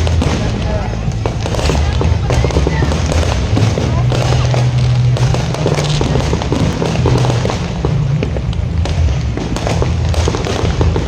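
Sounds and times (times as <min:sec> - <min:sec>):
fireworks popping and banging: 0:00.0 - 0:11.0
low-pitched drone: 0:00.0 - 0:11.0.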